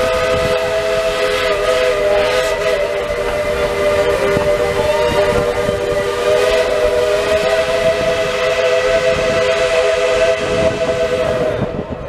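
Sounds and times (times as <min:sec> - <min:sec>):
moving train running noise: 0:00.0 - 0:12.0
steam locomotive chime whistle: 0:00.0 - 0:12.0.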